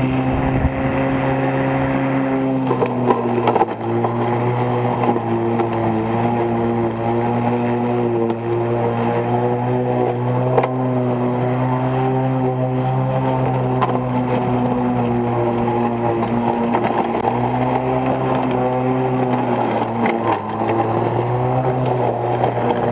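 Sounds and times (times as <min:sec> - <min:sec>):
blade crackling on grass: 0:00.0 - 0:22.9
electric lawn mower whine: 0:00.0 - 0:22.9.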